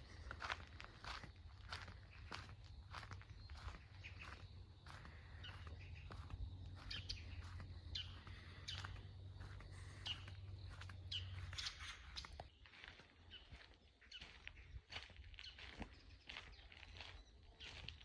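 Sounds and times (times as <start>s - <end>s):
footsteps on forest trail: 0.0s - 18.0s
birds chirping: 0.9s - 18.0s.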